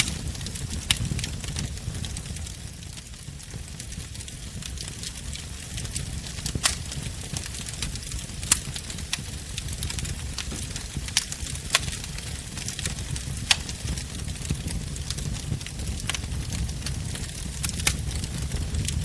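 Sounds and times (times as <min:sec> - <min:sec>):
burning wood crackling and popping: 0:00.0 - 0:19.0
low rumble of flames: 0:00.0 - 0:19.0.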